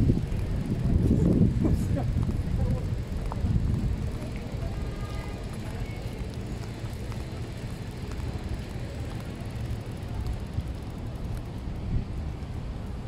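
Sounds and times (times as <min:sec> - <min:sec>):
light bicycle clicks: 0:00.0 - 0:13.0
street traffic rumble: 0:00.0 - 0:13.0.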